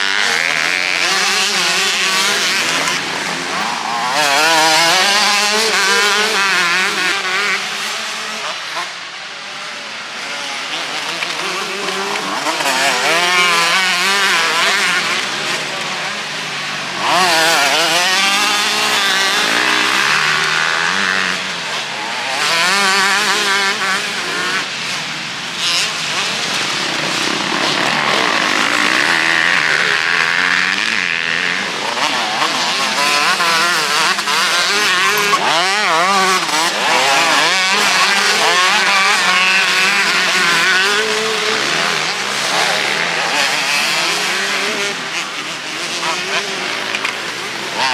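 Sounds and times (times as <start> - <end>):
louder motorbike: 0.0 - 47.9
motocross bikes revving: 0.0 - 47.9.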